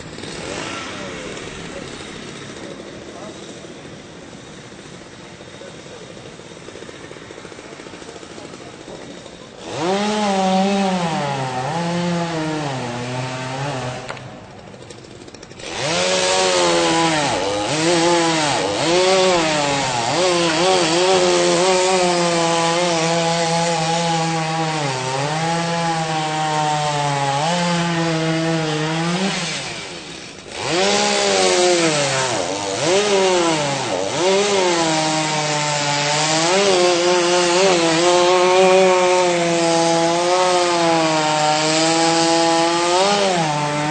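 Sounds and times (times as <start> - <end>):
chainsaw cutting into tree: 0.0 - 43.9.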